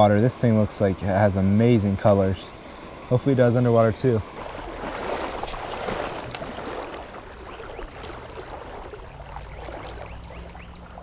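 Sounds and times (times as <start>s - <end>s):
creek water rushing and splashing: 0.0s - 11.0s.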